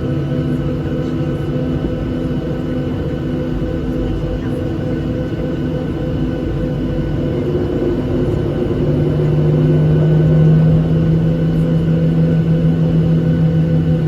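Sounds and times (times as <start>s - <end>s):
jet engines droning in cabin: 0.0s - 14.0s.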